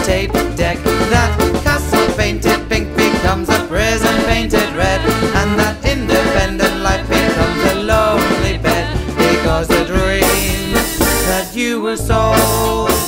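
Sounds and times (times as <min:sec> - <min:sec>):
upbeat song with steady beat: 0:00.0 - 0:13.0.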